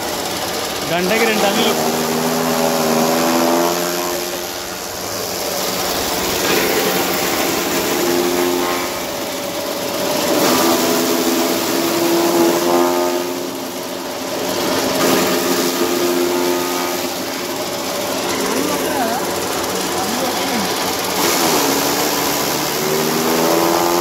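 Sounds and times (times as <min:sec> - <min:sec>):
motor hum: 0:00.0 - 0:24.0
chaff cutter chopping grass: 0:00.8 - 0:24.0.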